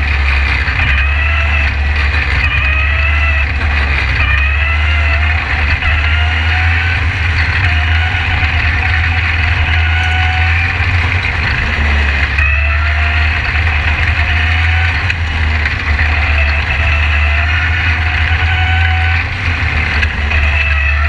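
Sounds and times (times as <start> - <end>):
race car engine running hard: 0.0 - 21.0.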